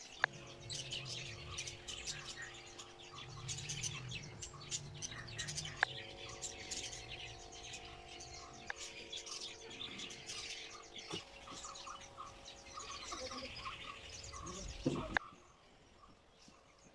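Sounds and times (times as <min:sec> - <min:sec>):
faint steady hum: 0:00.0 - 0:16.9
small birds chirping: 0:00.0 - 0:16.9.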